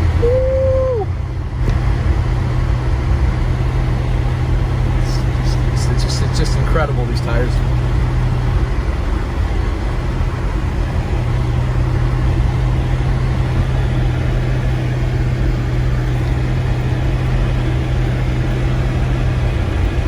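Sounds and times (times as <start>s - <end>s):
car engine and tyre drone: 0.0s - 20.0s.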